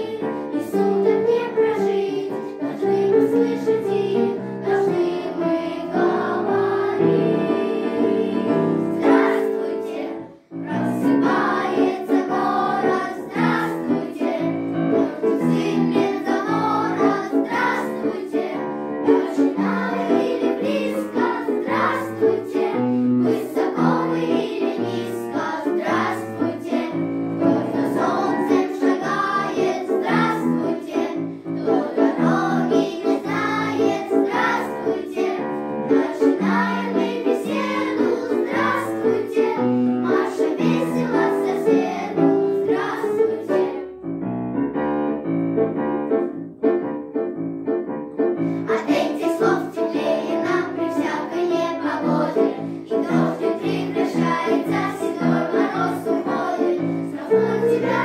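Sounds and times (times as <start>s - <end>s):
children's choir singing: 0.0s - 44.0s, 48.4s - 58.0s
piano accompaniment: 0.0s - 58.0s.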